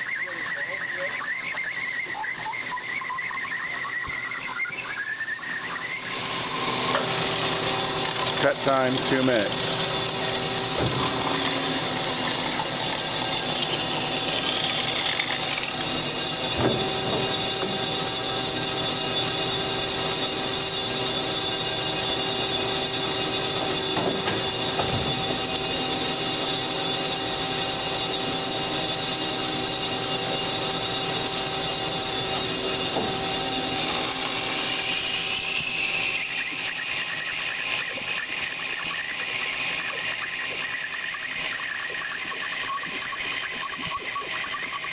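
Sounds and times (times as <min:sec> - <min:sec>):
band saw humming: 0:00.0 - 0:44.9
saw blade squealing: 0:00.0 - 0:44.9.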